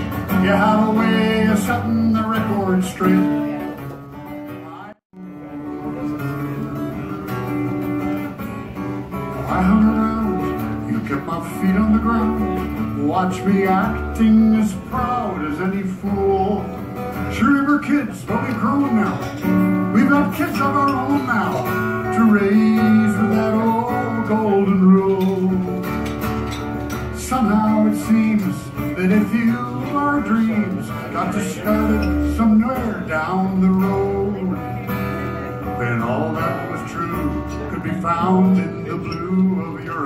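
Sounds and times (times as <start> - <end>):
man singing: 0.0 - 26.2, 26.9 - 40.0
acoustic guitar playing: 0.0 - 40.0.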